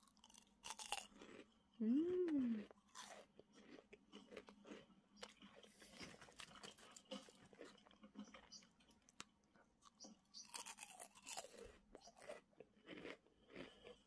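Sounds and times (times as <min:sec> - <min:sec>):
snack crunching: 0:00.0 - 0:14.0.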